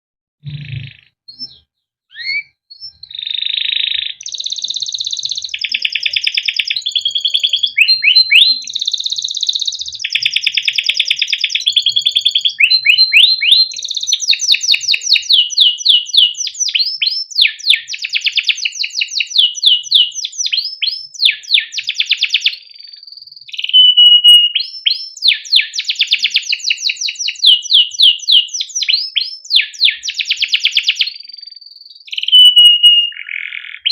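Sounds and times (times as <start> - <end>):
canary singing trills: 0.4 - 33.9.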